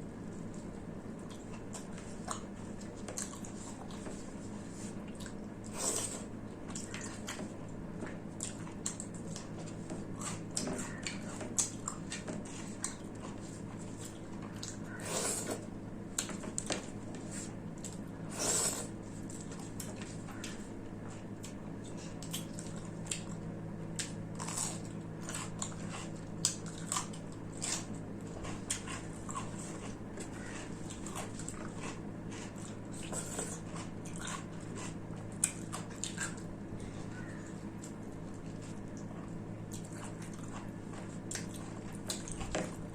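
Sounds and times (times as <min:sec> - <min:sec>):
wet chewing: 0:00.3 - 0:42.9.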